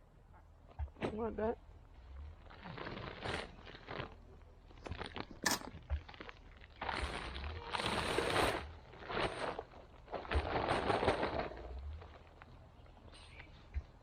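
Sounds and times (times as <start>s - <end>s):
soil crunching and scraping: 0.8s - 14.0s.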